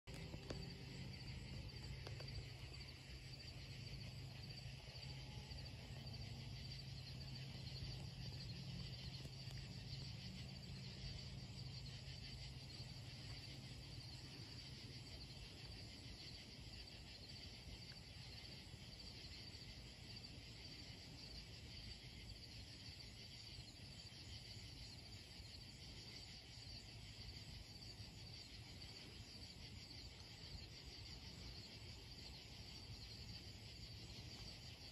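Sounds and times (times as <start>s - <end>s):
crickets and insects trilling: 0.0s - 34.9s.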